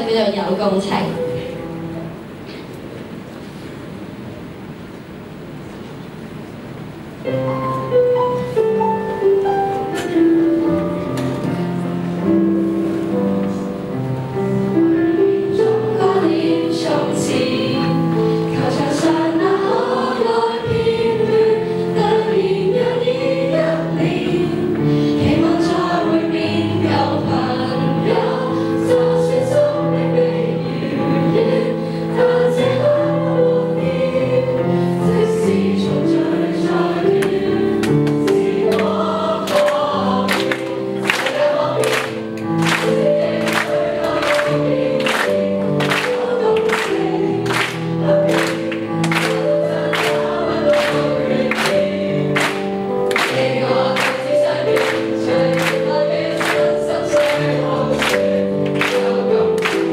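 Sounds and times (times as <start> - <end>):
children's choir singing: 7.4 - 59.9.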